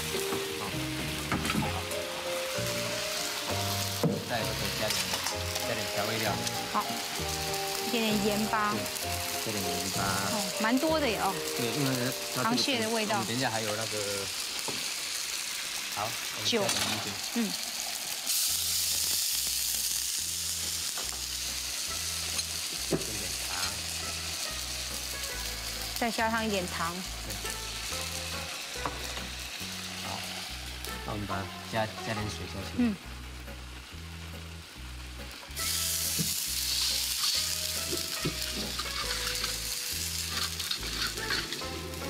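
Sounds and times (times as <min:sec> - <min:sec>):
sauce sizzling in a wok: 0:00.0 - 0:42.0.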